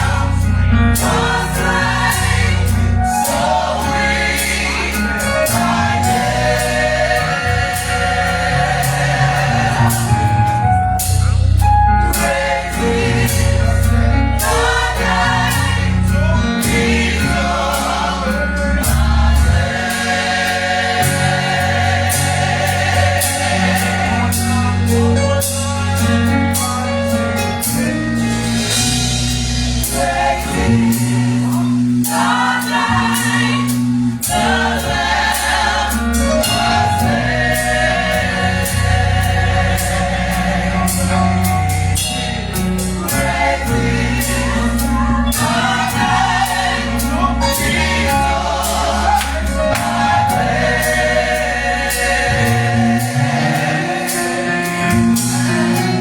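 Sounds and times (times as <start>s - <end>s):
choir singing: 0.0s - 26.8s, 27.6s - 56.0s
band playing: 0.0s - 56.0s.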